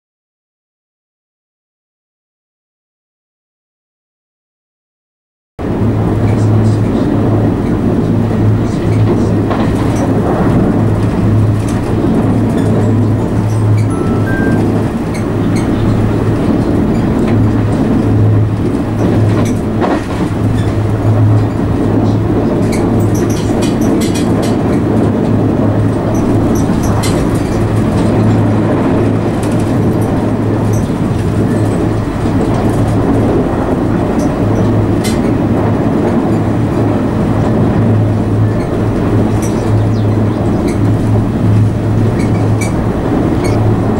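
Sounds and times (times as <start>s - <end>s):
train wheels rumbling on rail: 5.6s - 43.9s.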